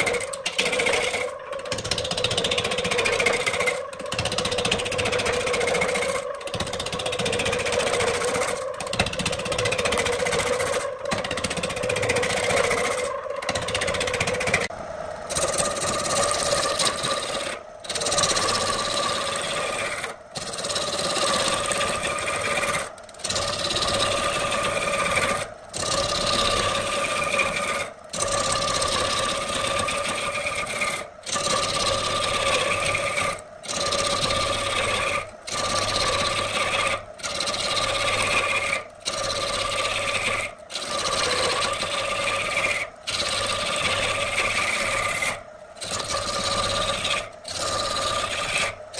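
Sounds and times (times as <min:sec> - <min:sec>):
turning tool rasping wood: 0:00.0 - 0:14.7, 0:15.3 - 0:48.9
wood lathe hum: 0:00.0 - 0:48.9.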